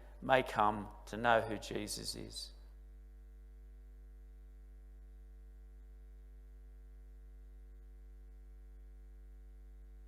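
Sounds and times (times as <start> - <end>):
faint mains hum: 0.0 - 10.0.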